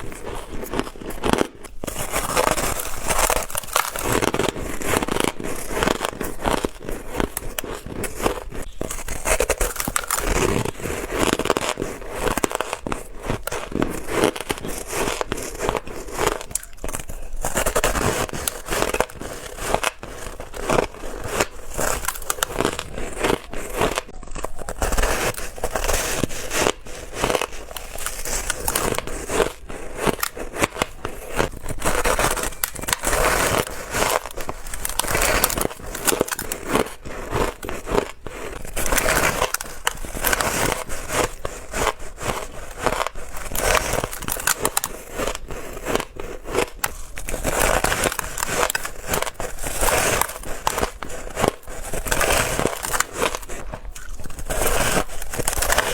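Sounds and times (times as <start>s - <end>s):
ice crunching between teeth: 0.0s - 55.9s.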